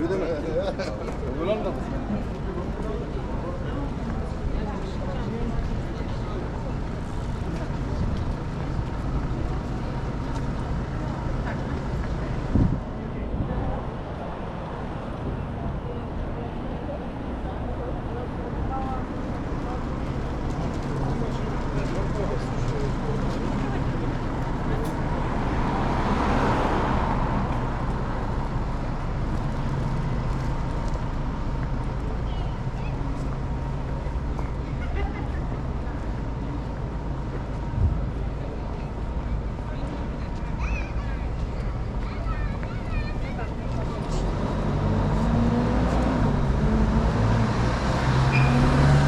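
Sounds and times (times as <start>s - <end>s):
traffic rumble: 0.0s - 49.0s.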